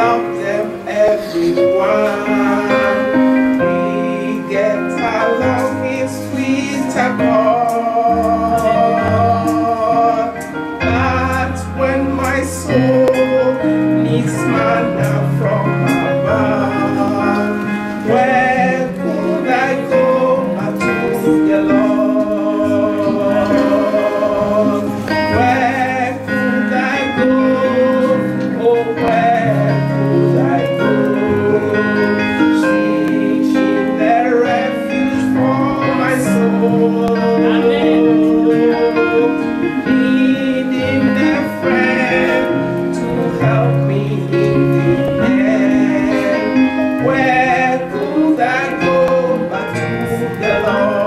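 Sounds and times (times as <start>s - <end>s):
keyboard accompaniment: 0.0s - 51.0s
woman singing a hymn: 0.0s - 51.0s.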